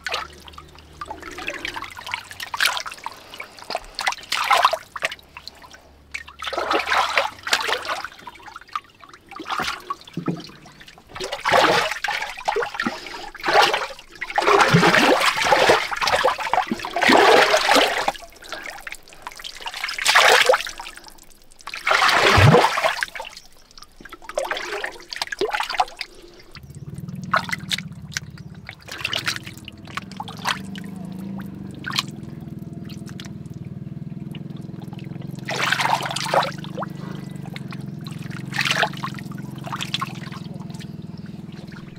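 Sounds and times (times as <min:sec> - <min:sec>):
hands splashing in muddy water: 0:00.0 - 0:33.4, 0:34.3 - 0:41.9
stirred water: 0:00.0 - 0:41.9.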